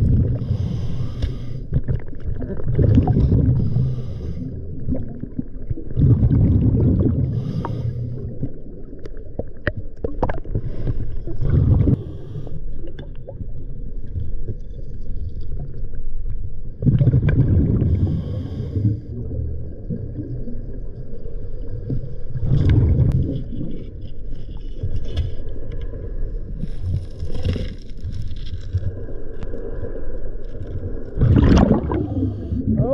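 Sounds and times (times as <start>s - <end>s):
underwater exhaled air bubbling: 0.0s - 24.0s, 25.3s - 32.9s
low underwater rumble: 0.0s - 32.9s.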